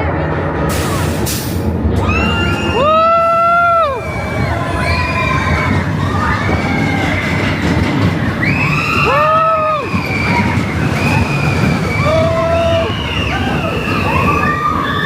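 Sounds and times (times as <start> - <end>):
roller coaster rumbling on track: 0.0 - 15.0
riders screaming: 2.0 - 15.0.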